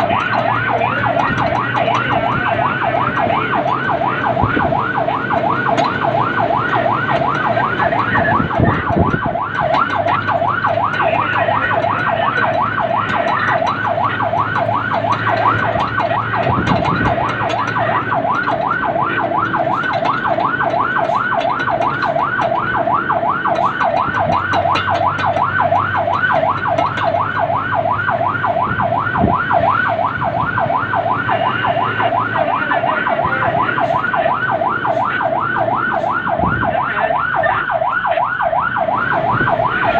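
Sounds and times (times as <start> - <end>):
fire truck siren yelping: 0.0 - 39.9
truck engine running: 0.0 - 39.9.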